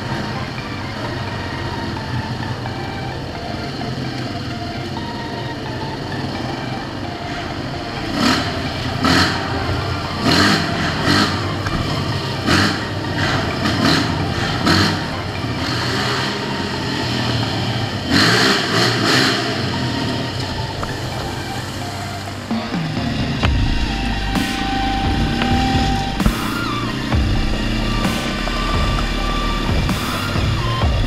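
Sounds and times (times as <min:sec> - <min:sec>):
atv engine revving in a tunnel: 0:00.0 - 0:31.0.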